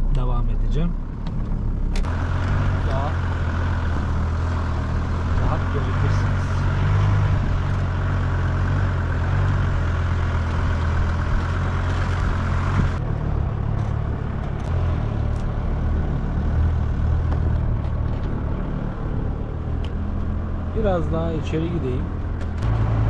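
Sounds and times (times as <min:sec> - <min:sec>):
engine low rumble: 0:00.0 - 0:23.0.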